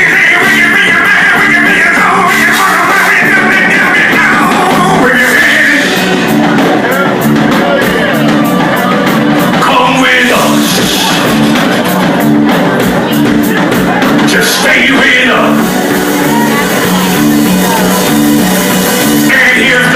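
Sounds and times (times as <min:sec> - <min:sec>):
live band playing rock music: 0:00.0 - 0:19.9.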